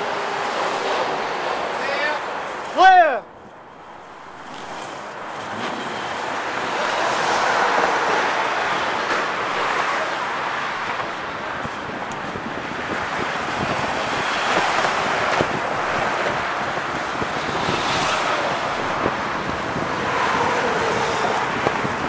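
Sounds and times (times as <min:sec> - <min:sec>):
road traffic: 0:00.0 - 0:22.0
wind on microphone: 0:03.4 - 0:22.0.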